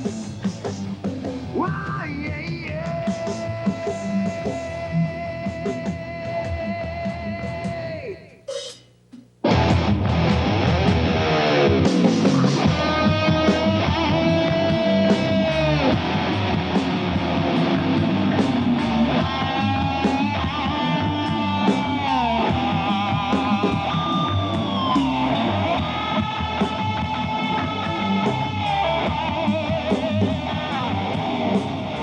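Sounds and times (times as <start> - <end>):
bass and drums: 0.0 - 8.8, 9.4 - 32.0
distorted electric guitar: 0.0 - 8.8, 9.4 - 32.0.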